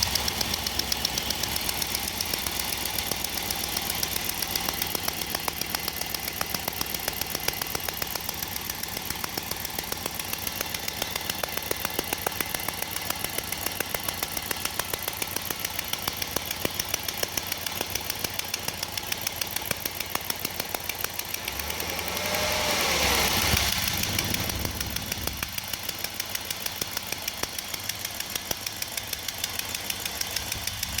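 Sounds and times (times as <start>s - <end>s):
van engine ticking: 0.0s - 31.0s.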